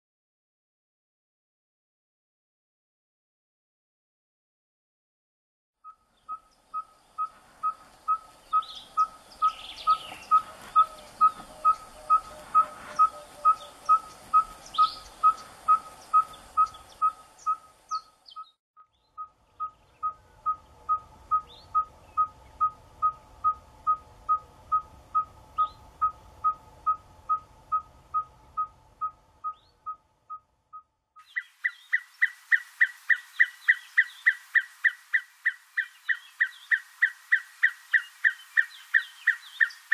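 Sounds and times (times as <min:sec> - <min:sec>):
bird repeating single notes: 0:05.8 - 0:39.9.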